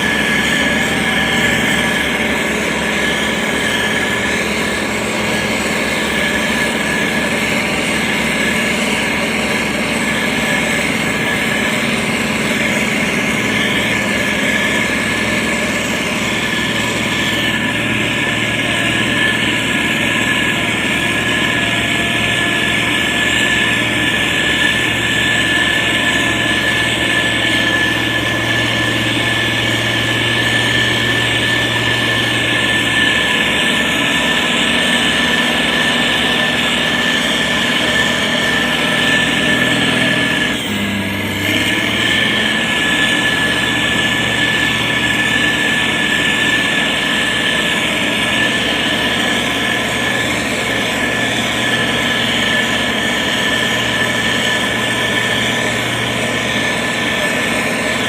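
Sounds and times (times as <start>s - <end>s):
deep hum: 0.0s - 58.0s
heavy machine engine running: 0.0s - 58.0s.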